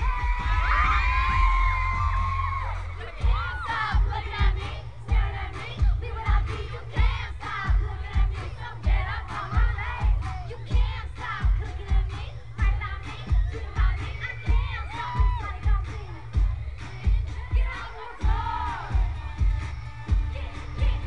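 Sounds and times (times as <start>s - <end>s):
kick drum beat: 0.0s - 21.0s
low bass rumble: 0.0s - 21.0s.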